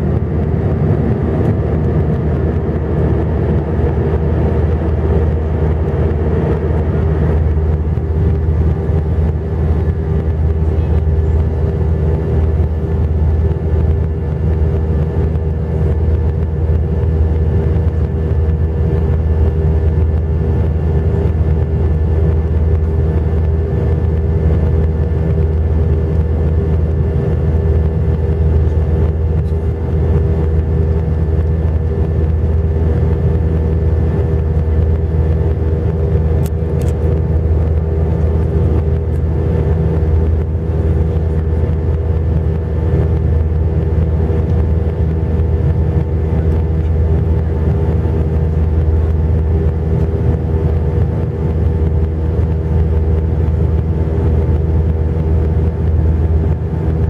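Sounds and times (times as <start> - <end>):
engine hum tones: 0.0 - 57.0
jet engine low rumble: 0.0 - 57.0.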